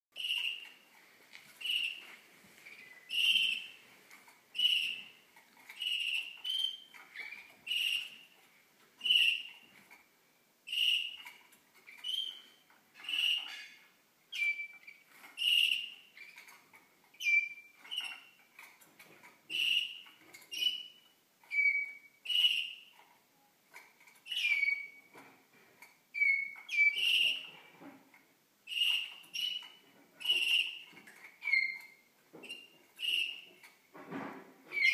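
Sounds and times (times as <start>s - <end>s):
canaries singing: 0.1s - 34.9s.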